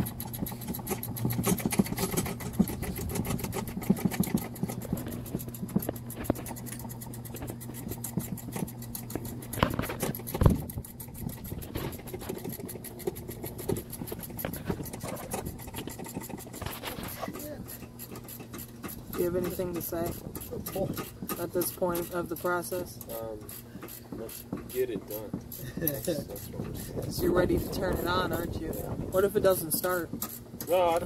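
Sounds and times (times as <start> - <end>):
metal clicks and scrapes: 0.0 - 31.0
steady low hum: 0.0 - 31.0.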